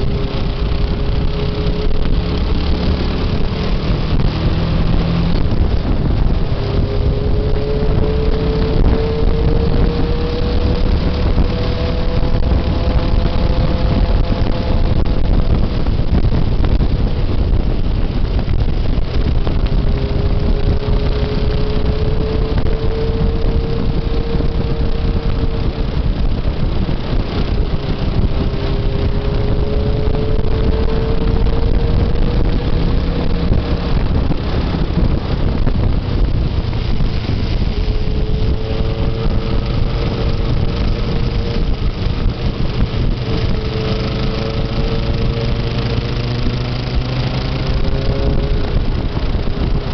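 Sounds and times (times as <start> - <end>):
motorcycle engine revving: 0.0 - 49.9
wind rumble on microphone: 0.0 - 49.9.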